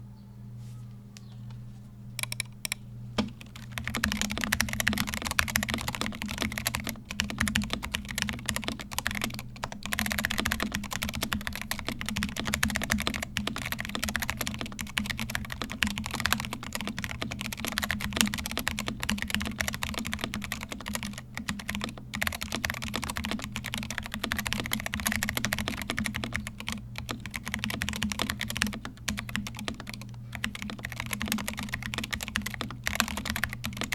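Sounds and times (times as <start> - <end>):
steady low hum: 0.0 - 33.9
typing on mechanical keyboard: 2.2 - 33.9.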